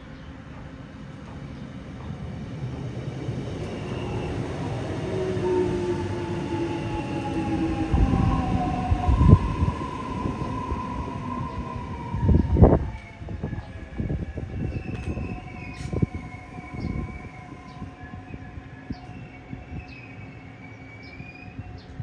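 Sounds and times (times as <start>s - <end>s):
wheel and rail rumble: 0.0s - 20.6s.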